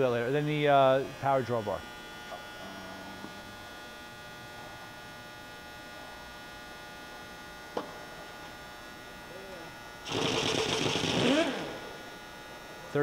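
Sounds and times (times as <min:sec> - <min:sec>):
electrical hum of milling machine: 0:00.0 - 0:13.0.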